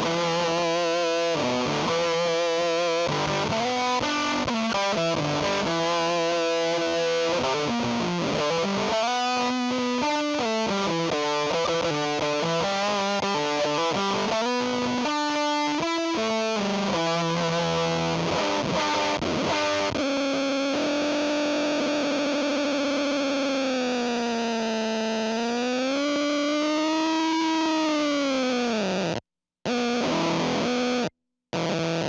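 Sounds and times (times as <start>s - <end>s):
distorted electric guitar: 0.0s - 32.0s.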